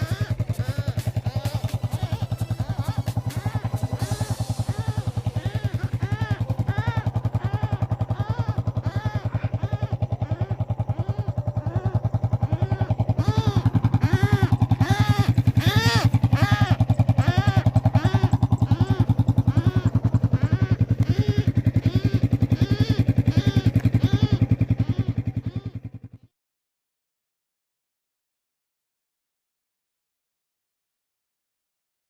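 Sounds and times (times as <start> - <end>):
bird hollow gulping calls: 0.0 - 26.2
fast low throbbing: 0.0 - 26.2.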